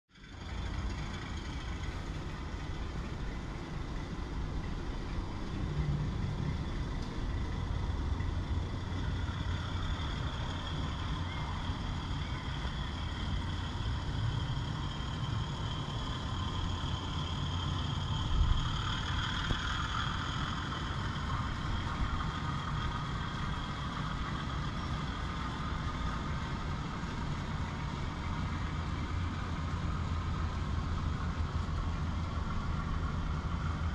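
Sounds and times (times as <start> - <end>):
low engine rumble: 0.1 - 33.9.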